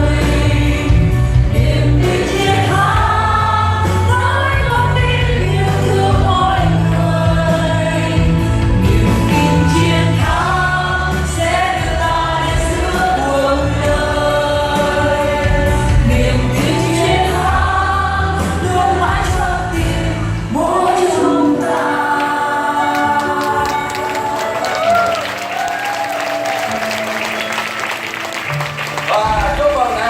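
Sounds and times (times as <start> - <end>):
group singing in chorus: 0.0 - 25.6
instrumental accompaniment with bass: 0.0 - 30.0.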